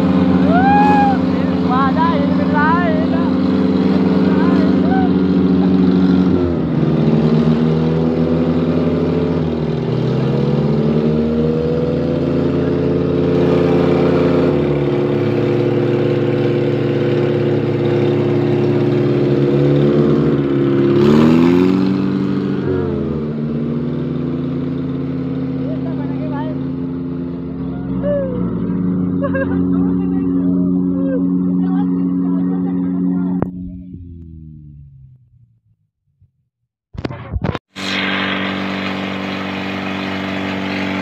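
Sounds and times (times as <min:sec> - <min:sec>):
tractor diesel engines revving: 0:00.0 - 0:34.5, 0:37.7 - 0:41.0.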